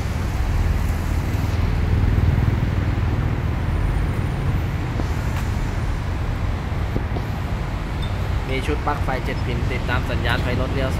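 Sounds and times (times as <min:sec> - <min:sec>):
vehicle engine rumbling: 0:00.0 - 0:10.9.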